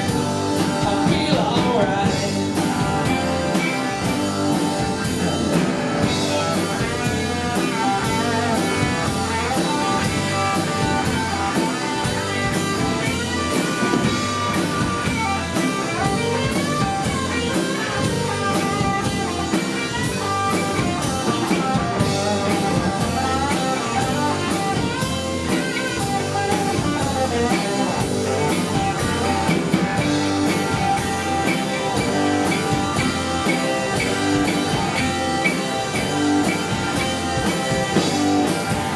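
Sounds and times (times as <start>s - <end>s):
drum kit steady beat: 0.0s - 38.9s
electric guitar playing: 0.0s - 38.9s.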